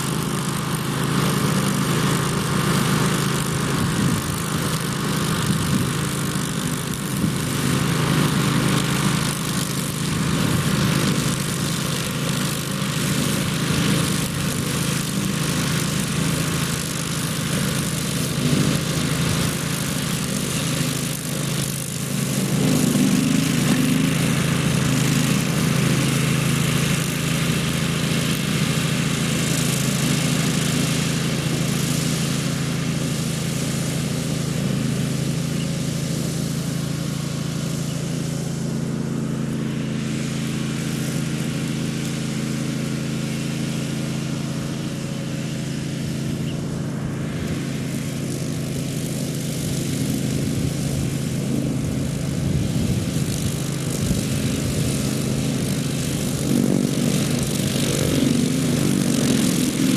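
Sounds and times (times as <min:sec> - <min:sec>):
ride-on mower engine running: 0:00.0 - 0:59.9.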